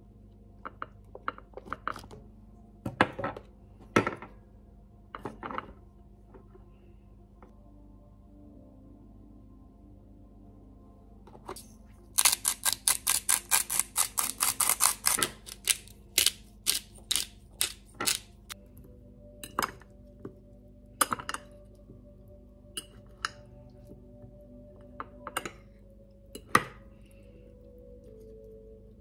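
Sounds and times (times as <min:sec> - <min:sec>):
quiet background music: 0:00.0 - 0:29.0.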